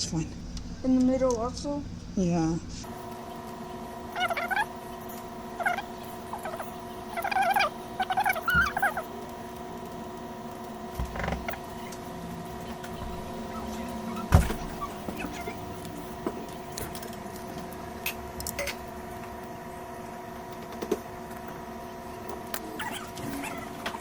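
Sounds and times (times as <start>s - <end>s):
faint electrical whine: 0.0s - 24.0s.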